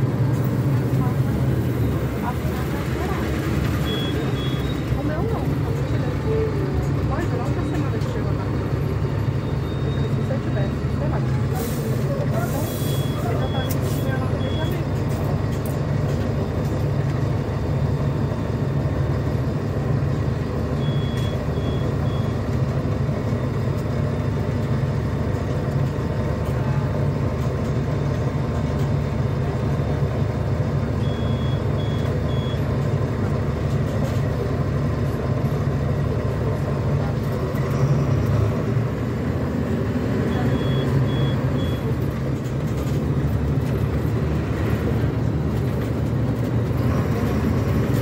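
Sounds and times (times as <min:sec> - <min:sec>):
bus engine running: 0:00.0 - 0:48.0.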